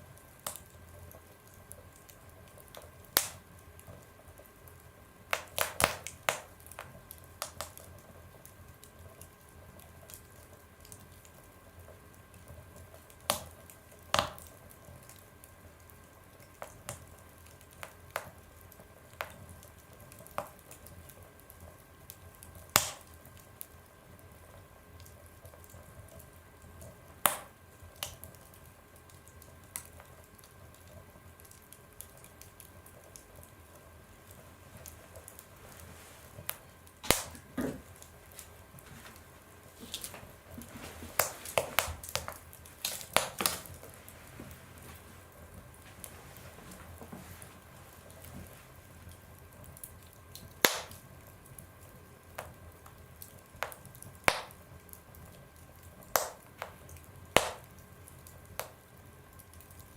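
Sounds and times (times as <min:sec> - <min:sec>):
faint steady hiss: 0:00.0 - 0:59.9
wood fire crackling and popping: 0:00.0 - 0:59.9.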